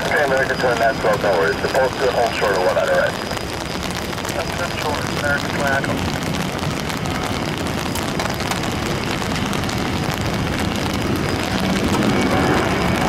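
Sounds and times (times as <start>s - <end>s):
heavy rain roaring: 0.0s - 13.0s
jet engines: 0.0s - 13.0s
raindrops ticking: 0.0s - 13.0s.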